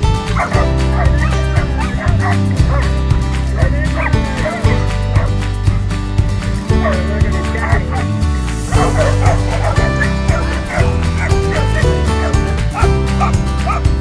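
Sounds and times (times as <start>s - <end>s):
background music: 0.0s - 14.0s
dogs yipping and whining: 0.2s - 5.4s, 6.7s - 8.1s, 8.7s - 13.9s.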